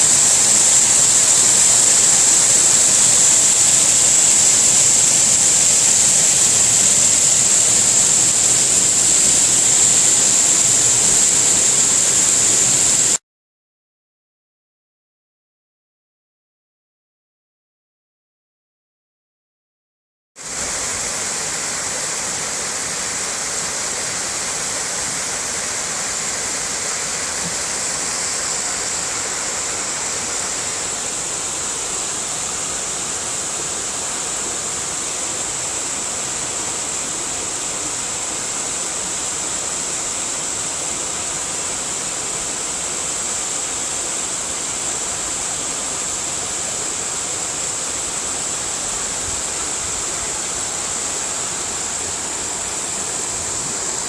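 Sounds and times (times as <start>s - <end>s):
waterfall rushing: 0.0s - 13.2s, 20.4s - 54.0s.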